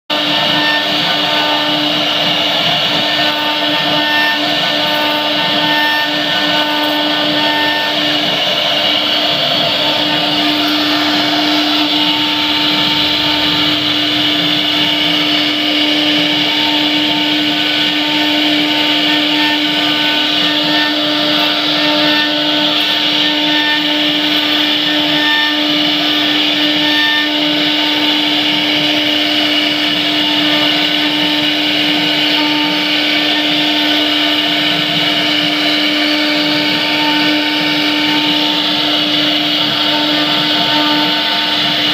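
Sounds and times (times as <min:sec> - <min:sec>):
router spindle whining: 0:00.1 - 0:41.9.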